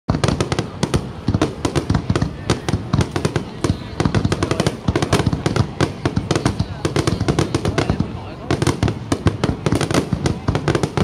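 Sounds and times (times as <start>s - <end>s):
fireworks bangs: 0.1s - 11.0s.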